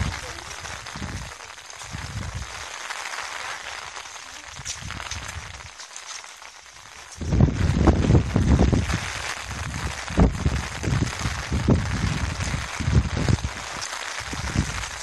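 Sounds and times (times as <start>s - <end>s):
rain falling: 0.0s - 15.0s
wind rumbling on microphone: 0.0s - 15.0s.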